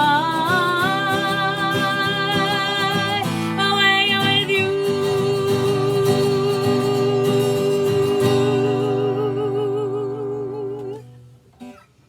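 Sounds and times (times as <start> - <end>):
woman singing with vibrato: 0.0 - 11.2
strummed acoustic guitar: 0.0 - 12.0.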